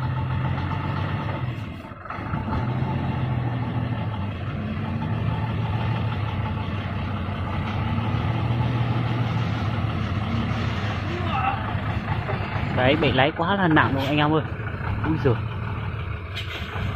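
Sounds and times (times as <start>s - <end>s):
diesel truck engine running: 0.0s - 16.9s.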